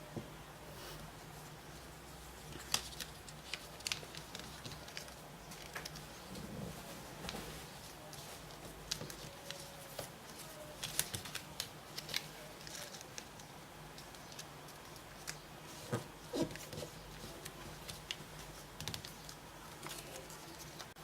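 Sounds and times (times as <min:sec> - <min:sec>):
paper being folded and creased: 0:02.4 - 0:06.3, 0:07.2 - 0:21.0.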